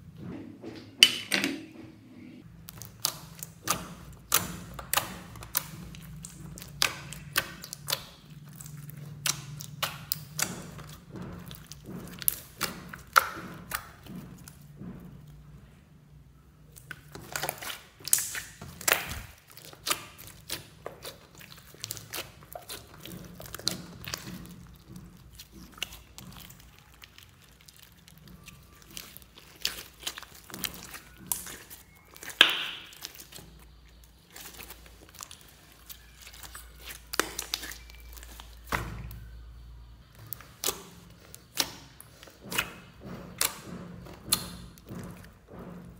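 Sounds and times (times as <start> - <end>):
slime popping and crackling: 2.6 - 14.6, 16.7 - 39.3, 40.1 - 45.3.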